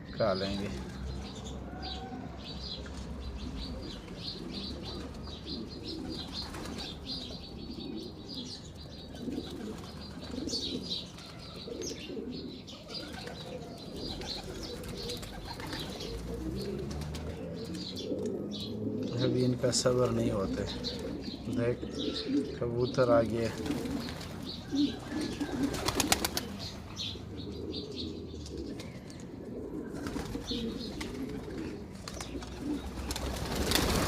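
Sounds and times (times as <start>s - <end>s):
pigeons cooing: 0.0s - 34.0s.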